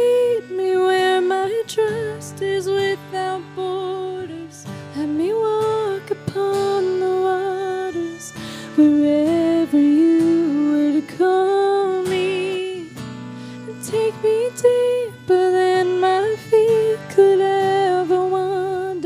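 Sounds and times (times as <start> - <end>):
melody of long held notes: 0.0 - 19.0.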